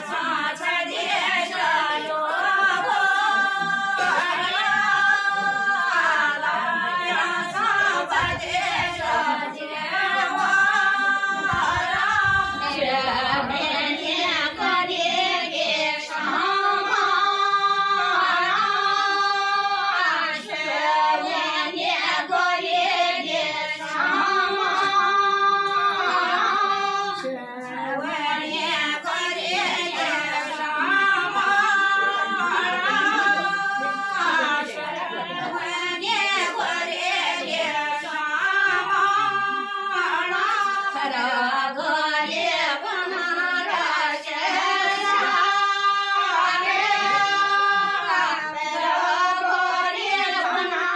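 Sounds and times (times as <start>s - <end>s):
women singing unaccompanied: 0.0s - 50.9s.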